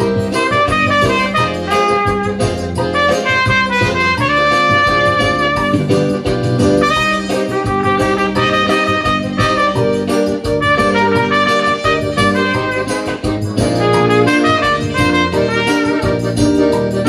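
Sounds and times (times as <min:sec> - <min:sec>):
backing track with bass and beat: 0:00.0 - 0:17.0
trumpet melody: 0:00.0 - 0:17.0.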